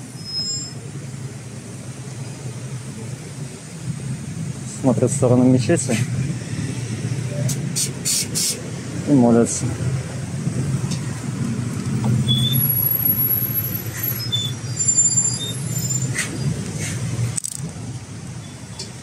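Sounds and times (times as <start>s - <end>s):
idling buses rumbling: 0.0s - 19.0s.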